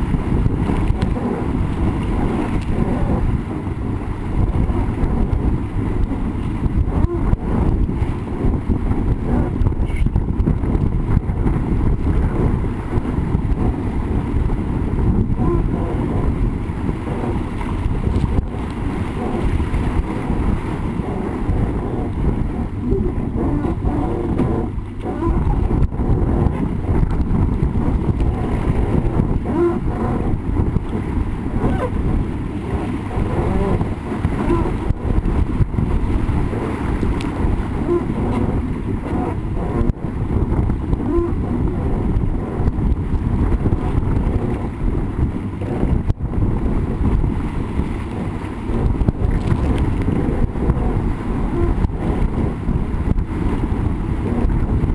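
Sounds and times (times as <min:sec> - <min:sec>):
water rushing along hull: 0:00.0 - 0:54.9
wind buffeting microphone: 0:00.0 - 0:54.9.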